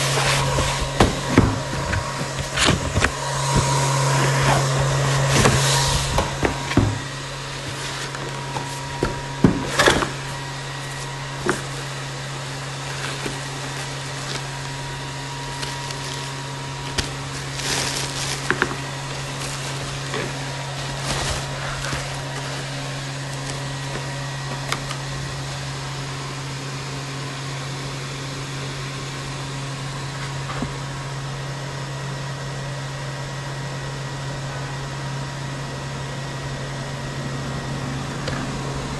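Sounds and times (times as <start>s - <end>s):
cardboard box and foam rustling: 0.0s - 31.4s
low machine hum: 0.0s - 38.9s.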